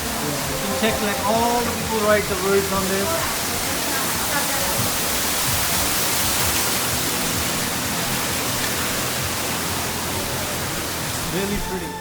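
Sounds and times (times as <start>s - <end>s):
busy street market noise: 0.0s - 12.0s.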